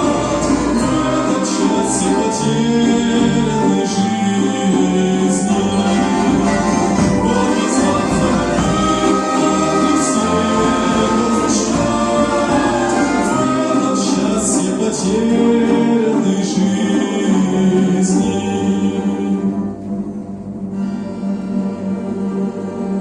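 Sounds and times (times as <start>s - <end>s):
choir singing a hymn: 0.0s - 20.2s
folk orchestra: 0.0s - 23.0s.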